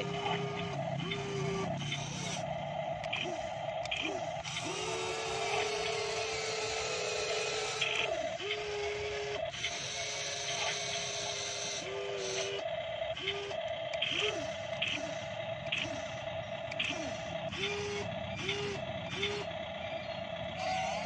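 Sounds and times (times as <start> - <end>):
model excavator motors whining: 0.0 - 21.0.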